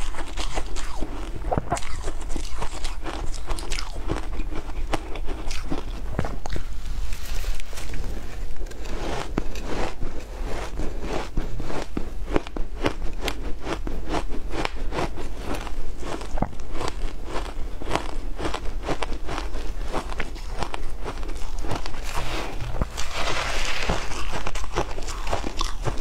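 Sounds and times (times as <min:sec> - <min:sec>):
shaved ice being chewed: 0:00.0 - 0:26.0.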